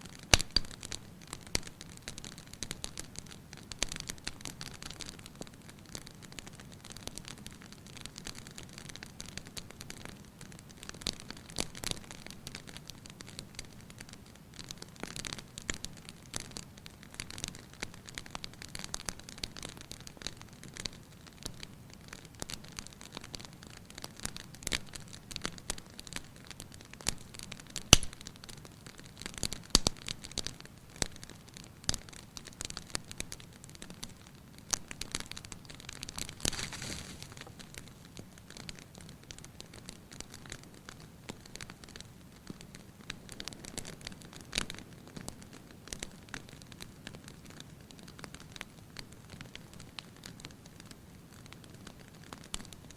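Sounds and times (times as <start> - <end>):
fireplace fire crackling: 0.0 - 52.9.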